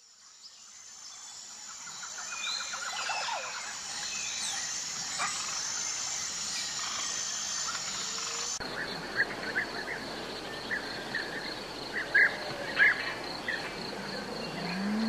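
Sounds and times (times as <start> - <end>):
steady high-pitched hiss: 0.0 - 15.0
birds chirping and calling: 1.9 - 15.0.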